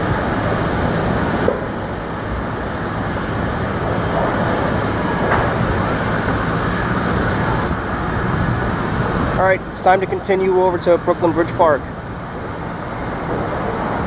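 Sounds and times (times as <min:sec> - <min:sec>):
traffic rumble: 0:00.0 - 0:14.0
trains crossing bridge: 0:00.0 - 0:14.0.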